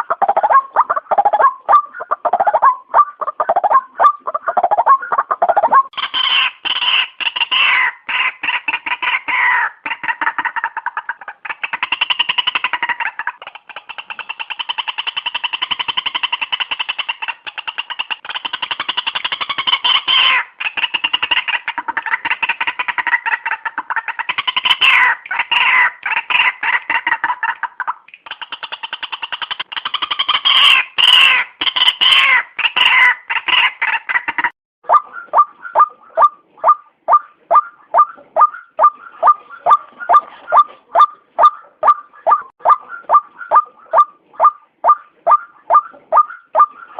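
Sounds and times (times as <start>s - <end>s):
bird harsh chattering calls: 0.0s - 27.4s, 28.2s - 46.9s.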